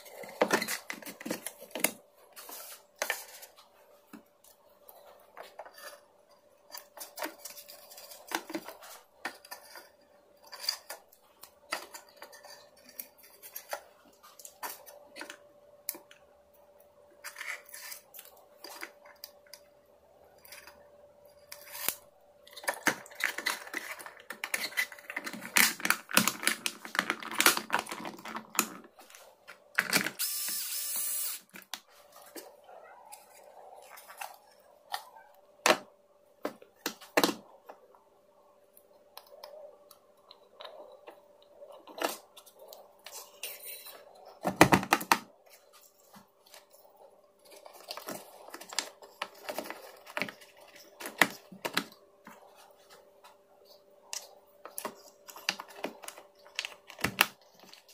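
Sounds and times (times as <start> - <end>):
small parts and tools rattling: 0.0 - 32.5, 38.8 - 57.9
faint steady hum: 0.0 - 57.9.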